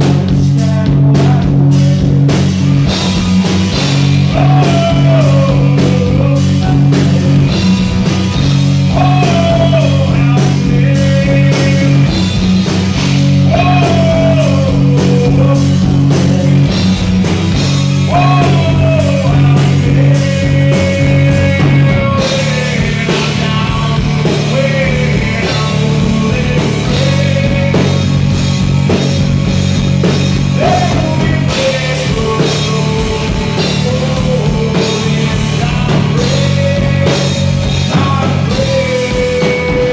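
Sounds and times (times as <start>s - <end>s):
man singing: 0.0s - 2.5s, 3.9s - 12.4s, 13.0s - 29.2s, 30.1s - 39.9s
rock band playing: 0.0s - 39.9s.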